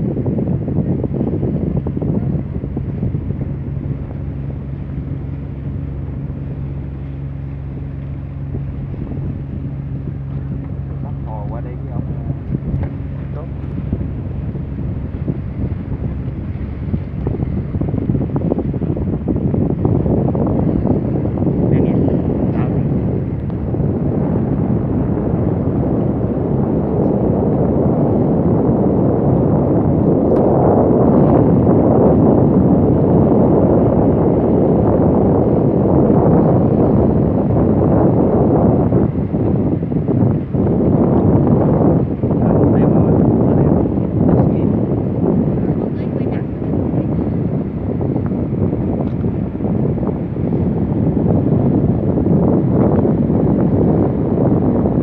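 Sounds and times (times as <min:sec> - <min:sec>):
boat engine droning: 0:00.0 - 0:55.0
wind buffeting microphone: 0:00.0 - 0:55.0.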